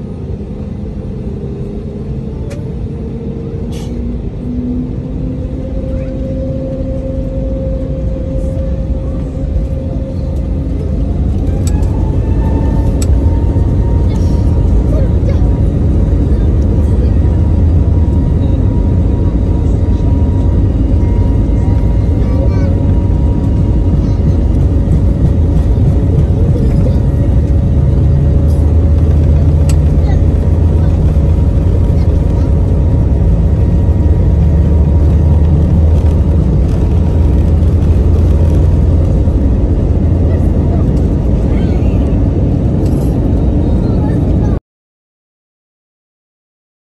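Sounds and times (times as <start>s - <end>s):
jet engines rumbling: 0.0s - 44.6s.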